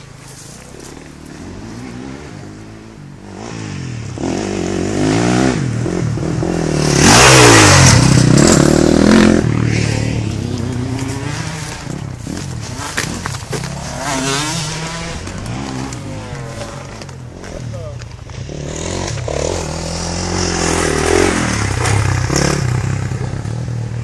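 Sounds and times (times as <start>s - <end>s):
motorbike engine revving: 0.8s - 24.0s.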